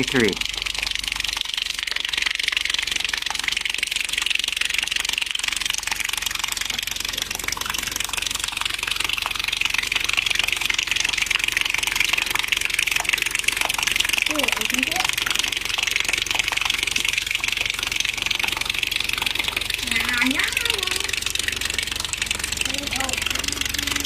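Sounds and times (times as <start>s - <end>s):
water hissing from hose: 0.0s - 24.0s.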